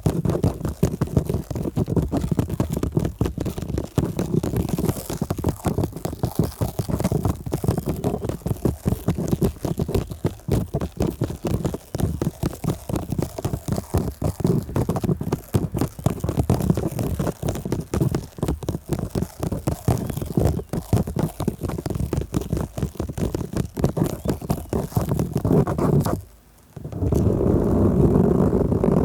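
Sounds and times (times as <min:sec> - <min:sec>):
stickers rubbing on microphone: 0:00.0 - 0:29.0.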